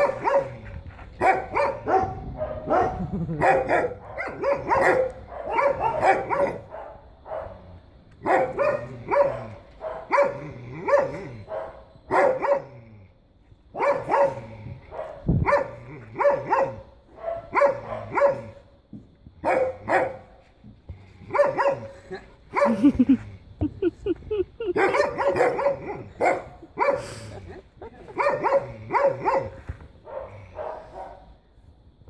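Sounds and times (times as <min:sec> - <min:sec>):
dogs barking: 0:00.0 - 0:00.6, 0:01.2 - 0:12.8, 0:13.7 - 0:18.6, 0:19.4 - 0:20.3, 0:21.2 - 0:23.1, 0:24.6 - 0:27.3, 0:28.1 - 0:31.3.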